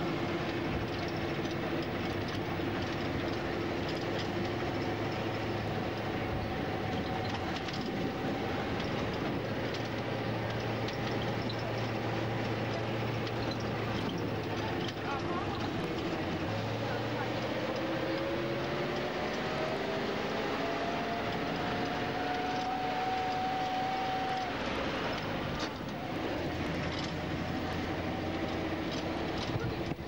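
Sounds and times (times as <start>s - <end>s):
bus engine running: 0.0s - 30.0s
road noise: 0.0s - 30.0s
faint small rattles: 0.4s - 19.7s, 24.2s - 30.0s.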